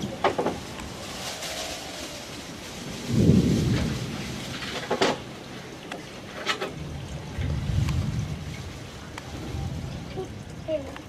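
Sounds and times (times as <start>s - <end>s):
distant thunder rumble: 0.0s - 11.0s
rain hiss: 0.0s - 11.0s.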